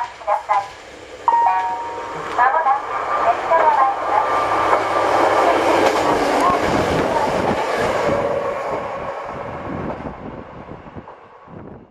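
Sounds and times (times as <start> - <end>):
train wheels rumbling and clattering: 0.0 - 11.9.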